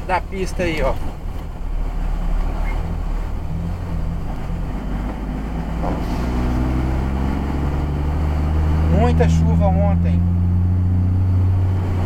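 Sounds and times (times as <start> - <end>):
car engine running: 0.0 - 12.0
road noise: 0.0 - 12.0.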